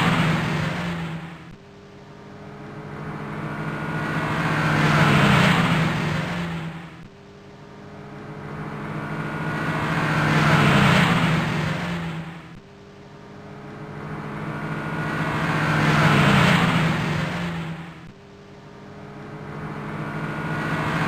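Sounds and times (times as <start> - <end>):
car engine noise: 0.0 - 21.0.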